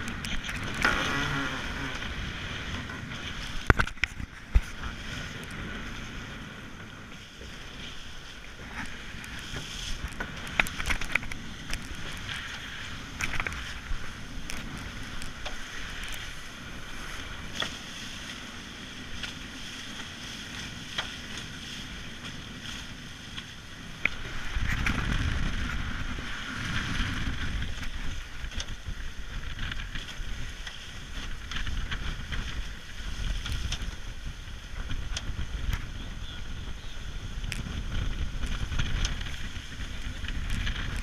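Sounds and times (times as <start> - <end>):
water rushing past hulls: 0.0 - 41.0
wind buffeting microphone: 0.0 - 41.0.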